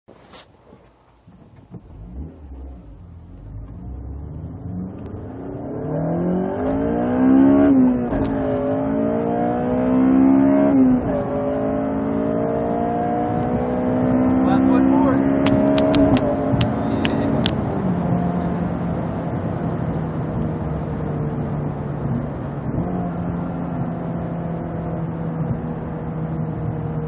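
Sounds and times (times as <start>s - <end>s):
car engine accelerating through gears: 1.3s - 27.0s.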